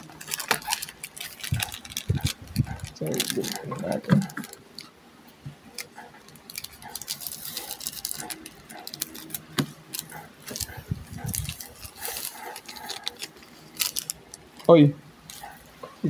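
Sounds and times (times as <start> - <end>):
foil pack crinkling and tearing: 0.0 - 4.9, 5.8 - 14.7.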